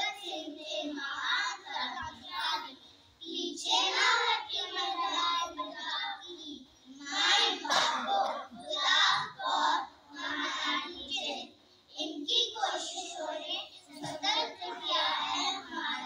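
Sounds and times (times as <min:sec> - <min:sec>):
children singing in unison: 0:00.0 - 0:16.0.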